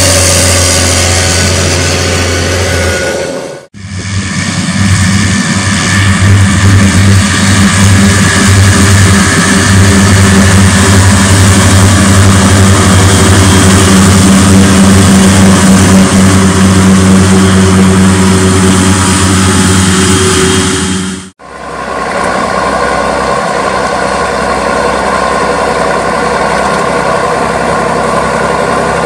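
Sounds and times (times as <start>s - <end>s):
tractor engine running under load: 0.0s - 29.0s.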